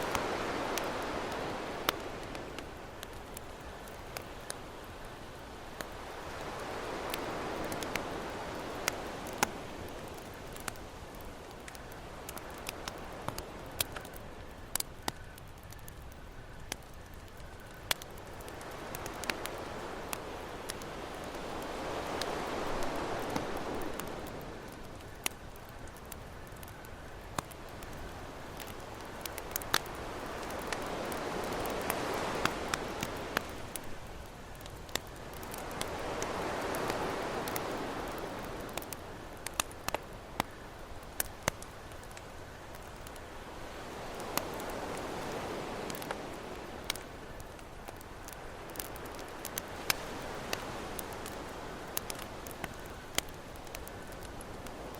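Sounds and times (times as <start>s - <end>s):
ocean surf: 0.0s - 14.9s, 17.8s - 54.9s
campfire crackling and popping: 0.0s - 54.9s.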